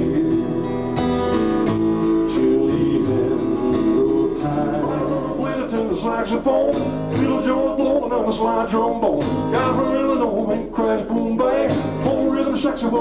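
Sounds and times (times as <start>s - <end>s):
man singing into a microphone: 0.0s - 0.8s, 2.1s - 13.0s
acoustic guitar strumming: 0.0s - 13.0s
double bass: 0.0s - 13.0s.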